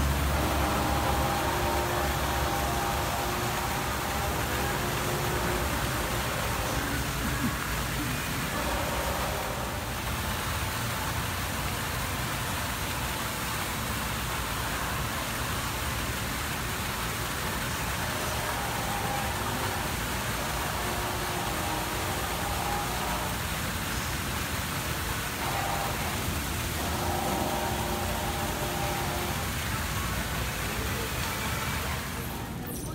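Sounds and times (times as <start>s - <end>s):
waterfall splashing into pool: 0.0s - 32.7s.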